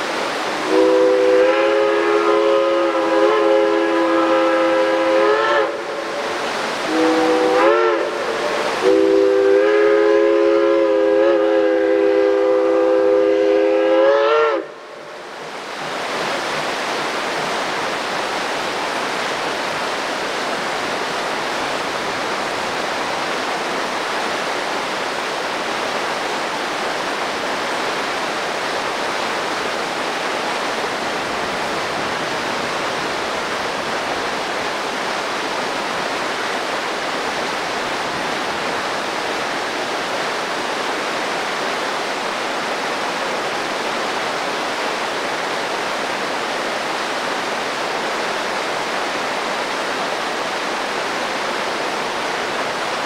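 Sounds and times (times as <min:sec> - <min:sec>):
rapids rushing over boulders: 0:00.0 - 0:53.0.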